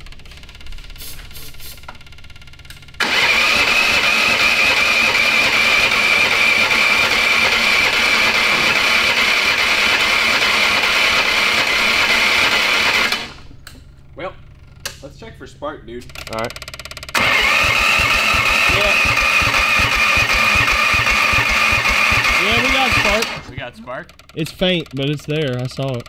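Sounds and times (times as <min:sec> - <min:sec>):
engine cranking on electric starter: 0:02.0 - 0:13.5, 0:16.0 - 0:26.0.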